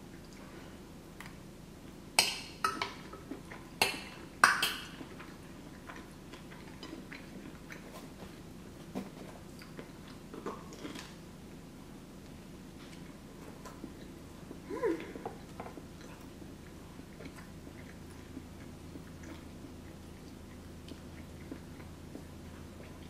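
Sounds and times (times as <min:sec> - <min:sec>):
chewing and mouth sounds: 0:00.0 - 0:23.0.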